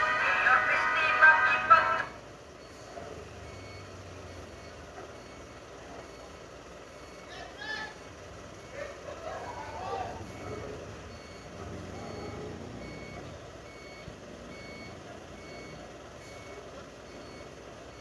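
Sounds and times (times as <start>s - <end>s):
back-up alarm beeping: 0.0s - 8.8s, 10.2s - 18.0s
truck engine running: 0.0s - 18.0s.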